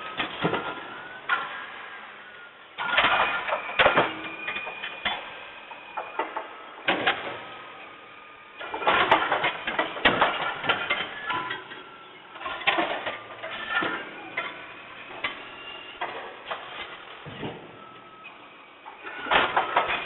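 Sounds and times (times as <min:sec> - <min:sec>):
garbage truck machinery clattering: 0:00.0 - 0:20.0
thin whining tone: 0:00.0 - 0:20.0.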